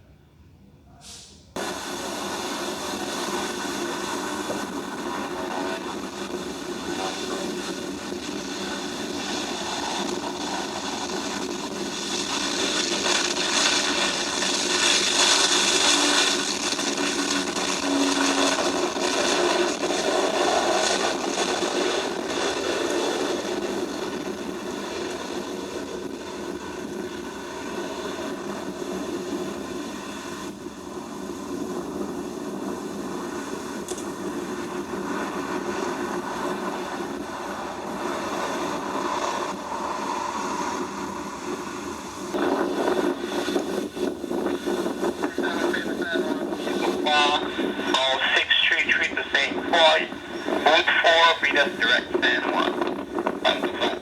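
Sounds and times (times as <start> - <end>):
jet engines roaring past: 1.6 - 54.0.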